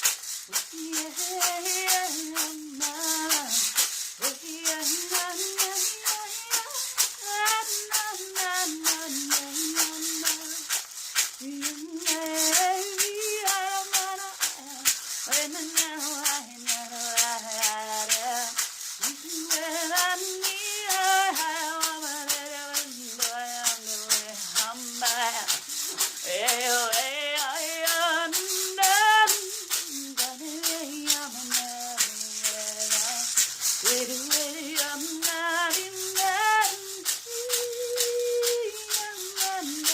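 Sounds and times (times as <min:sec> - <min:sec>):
hand rattle shaking: 0:00.0 - 0:39.9
woman singing wordlessly: 0:00.0 - 0:39.9.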